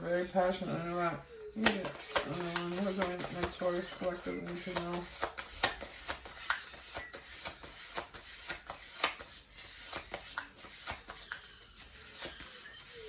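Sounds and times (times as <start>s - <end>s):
cards being shuffled: 1.6s - 12.9s.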